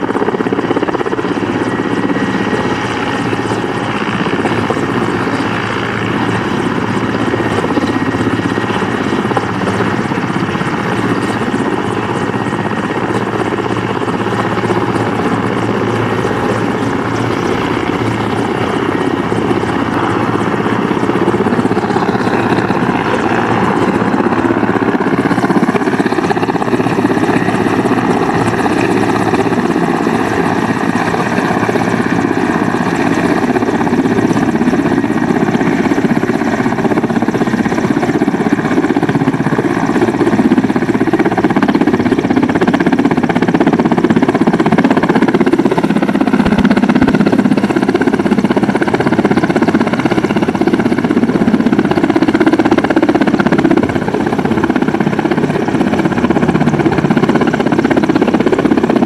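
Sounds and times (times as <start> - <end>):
helicopter engines and rotor: 0.0 - 59.0.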